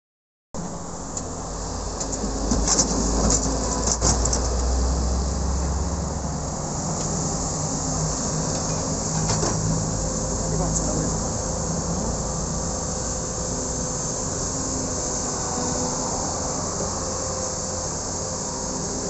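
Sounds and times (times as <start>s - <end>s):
excavator diesel engine working: 0.6s - 19.0s.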